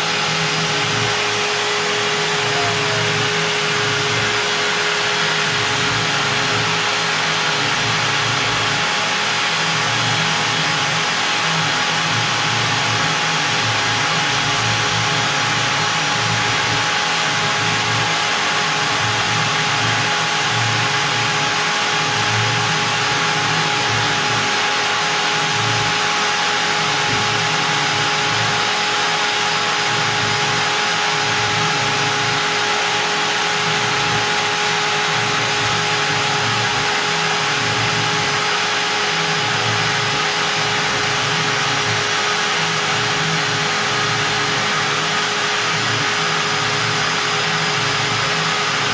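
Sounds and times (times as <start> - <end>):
router bit cutting wood: 0.0 - 48.9
router spindle whine: 0.0 - 48.9.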